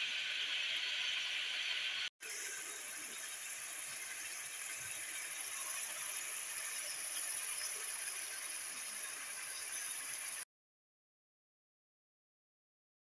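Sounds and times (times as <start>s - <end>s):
curry sizzling in a pan: 0.0s - 10.5s.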